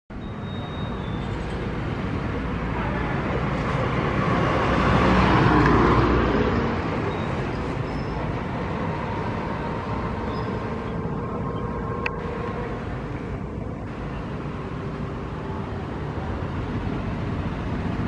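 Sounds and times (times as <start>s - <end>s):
road traffic hum: 0.1s - 18.0s
vehicle passing close: 0.9s - 18.0s.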